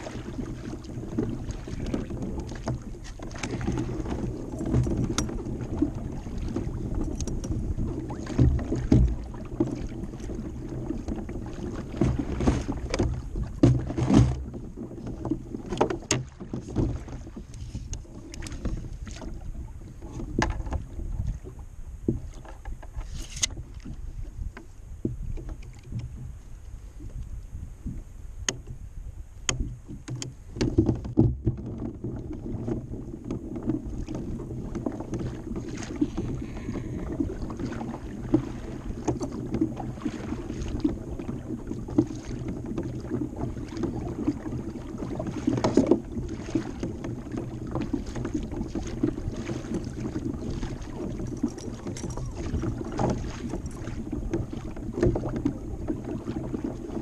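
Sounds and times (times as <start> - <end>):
water lapping against kayak hull: 0.0 - 57.0.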